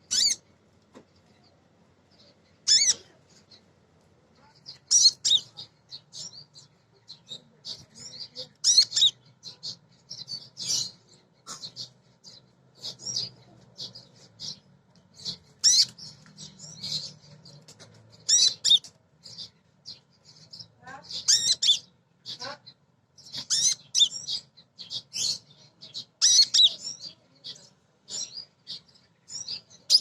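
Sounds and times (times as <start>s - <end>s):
bird chirping and twittering: 0.0s - 0.5s, 1.1s - 3.8s, 4.4s - 30.0s.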